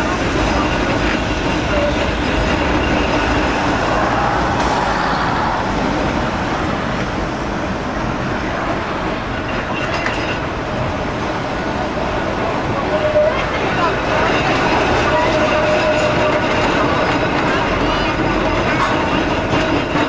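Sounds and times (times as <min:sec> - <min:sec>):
tram rumbling: 0:00.0 - 0:20.0.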